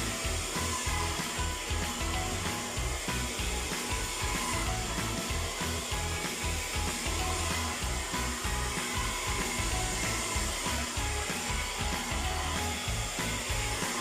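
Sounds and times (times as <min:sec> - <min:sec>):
background music: 0:00.0 - 0:14.0
hair dryer blowing: 0:00.0 - 0:14.0.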